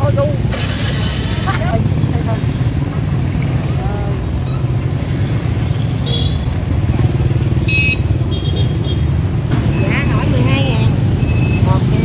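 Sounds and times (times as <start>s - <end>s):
motorbike engines running: 0.0s - 12.0s.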